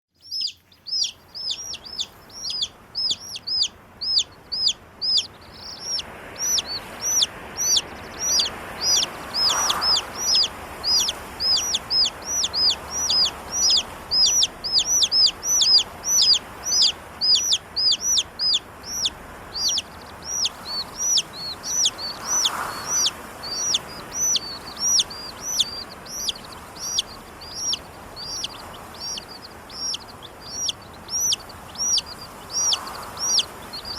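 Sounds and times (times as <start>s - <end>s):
chicken peeping: 0.2s - 33.9s.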